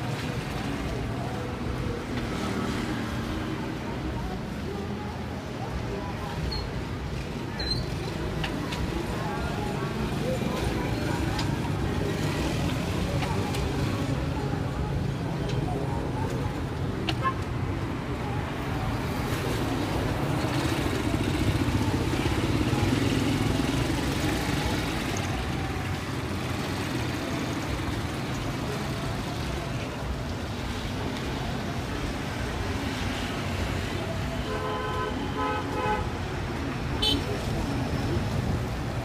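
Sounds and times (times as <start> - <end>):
passing engines and tyres: 0.0 - 39.0.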